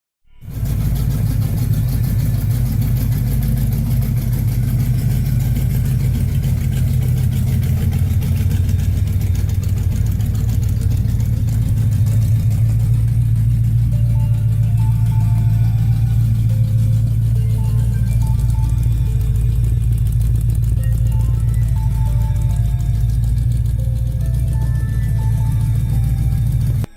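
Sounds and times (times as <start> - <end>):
car engine idling: 0.3 - 26.9.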